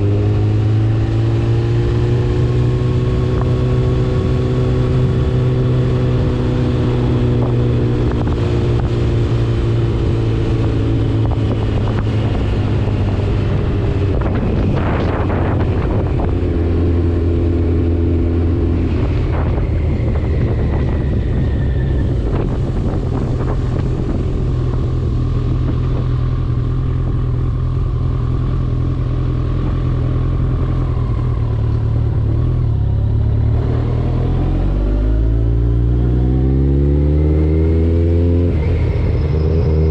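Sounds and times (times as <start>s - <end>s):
motorcycle engine running: 0.0s - 36.2s.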